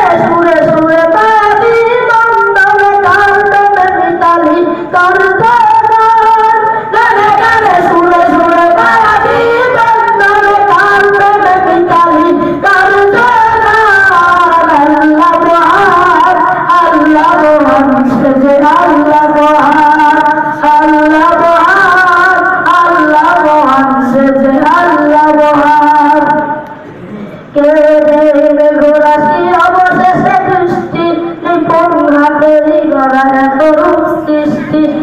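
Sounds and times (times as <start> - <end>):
boy singing into microphone: 0.0 - 35.0.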